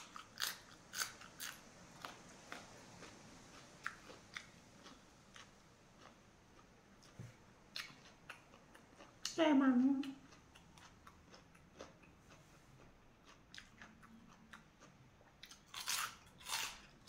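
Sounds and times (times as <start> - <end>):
person chewing crunchy food: 0.0 - 9.3, 10.0 - 17.0.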